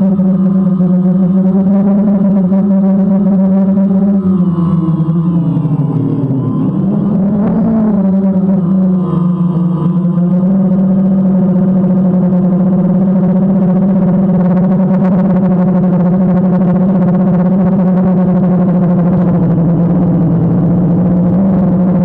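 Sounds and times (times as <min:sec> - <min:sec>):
drone propellers humming: 0:00.0 - 0:22.0.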